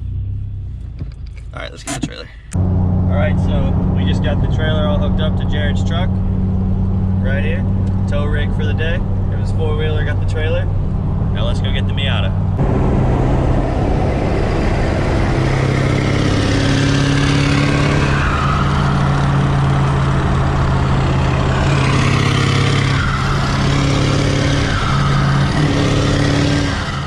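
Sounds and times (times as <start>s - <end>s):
road noise: 0.0s - 27.0s
vehicle engine running: 0.0s - 27.0s.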